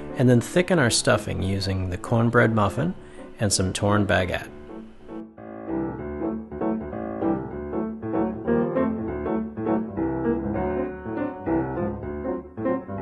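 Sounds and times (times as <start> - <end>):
piano background music: 0.0 - 13.0.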